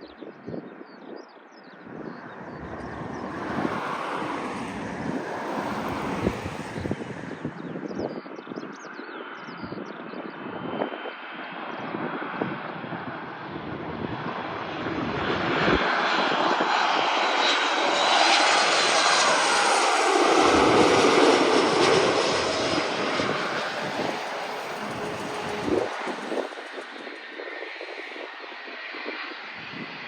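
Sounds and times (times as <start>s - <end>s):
jet airliner landing: 1.8s - 8.4s, 10.2s - 30.0s.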